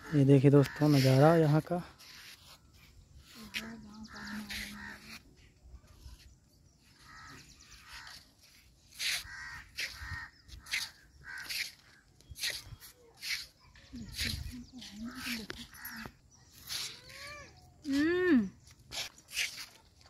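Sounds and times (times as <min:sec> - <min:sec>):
quick repeated bird calls: 0:00.0 - 0:17.9
birds calling: 0:00.0 - 0:19.8.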